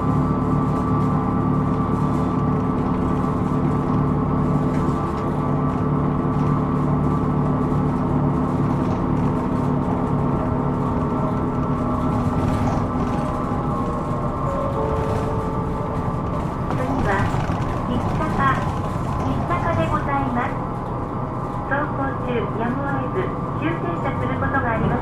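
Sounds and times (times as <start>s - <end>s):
bus engine drone: 0.0s - 25.0s.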